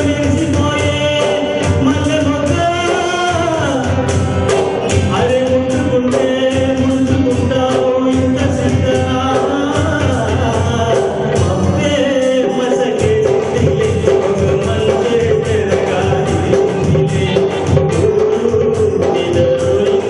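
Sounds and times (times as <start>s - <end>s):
instrumental accompaniment with beat: 0.0s - 20.0s
man singing into a microphone: 0.0s - 20.0s.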